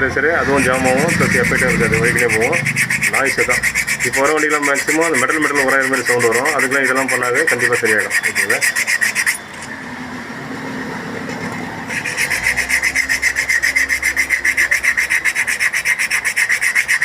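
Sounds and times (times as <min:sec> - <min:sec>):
sandpaper rasping on brake lining: 0:00.4 - 0:09.4, 0:11.4 - 0:17.0.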